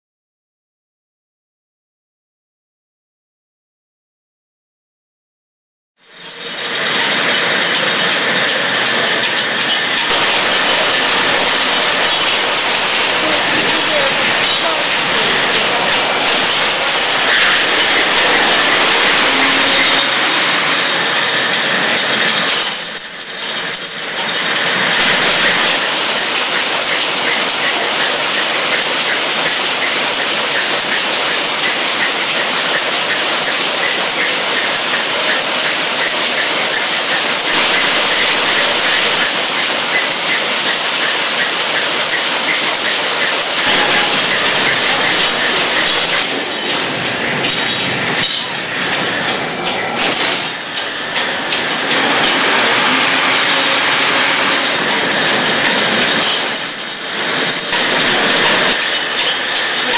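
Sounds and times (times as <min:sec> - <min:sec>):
mill machinery clattering: 0:06.0 - 0:59.9.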